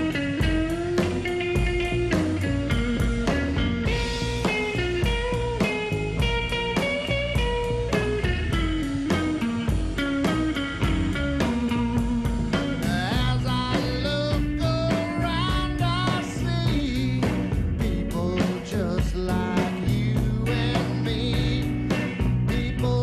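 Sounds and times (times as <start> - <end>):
guitar bending notes: 0.0 - 23.0
rockabilly band playing live: 0.0 - 23.0.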